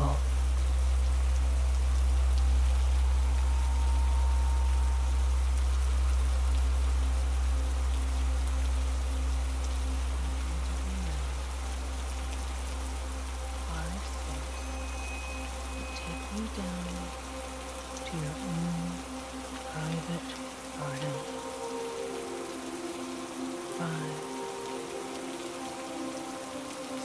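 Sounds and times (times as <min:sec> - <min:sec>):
deep low drone: 0:00.0 - 0:22.4
steady rain: 0:00.0 - 0:27.0.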